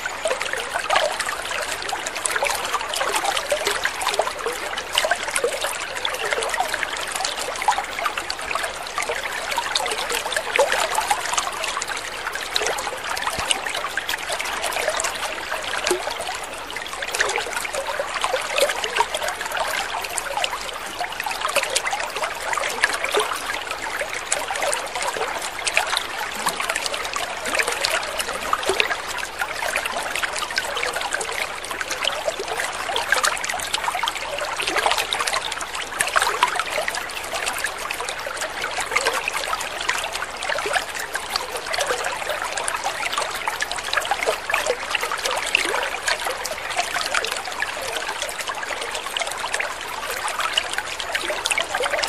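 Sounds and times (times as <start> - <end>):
water trickling: 0.0 - 52.0.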